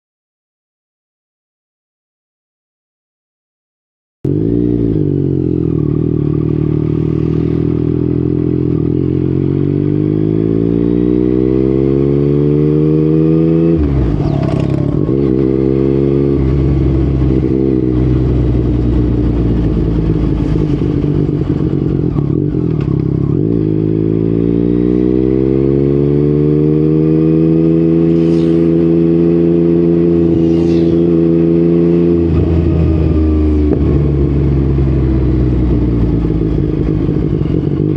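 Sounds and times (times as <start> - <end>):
motorcycle engine revving: 4.3 - 37.9.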